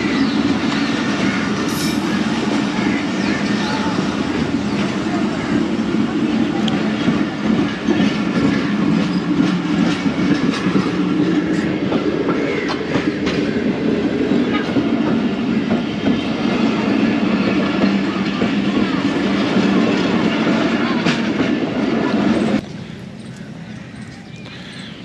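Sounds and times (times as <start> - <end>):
train rumble: 0.0 - 25.0
wheels clicking over rail joints: 0.0 - 25.0.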